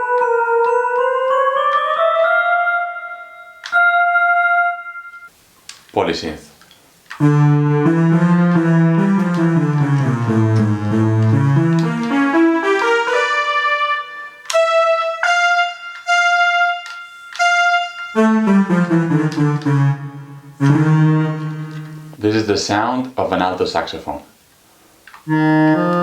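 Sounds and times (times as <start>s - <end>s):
synth chords: 0.0s - 5.3s, 7.1s - 22.2s, 25.3s - 26.0s.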